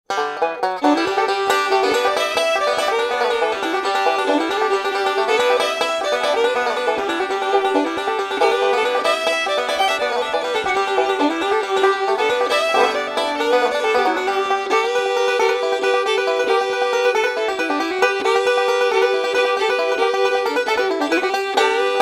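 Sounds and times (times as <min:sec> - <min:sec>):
bluegrass banjo picking: 0:00.1 - 0:22.0.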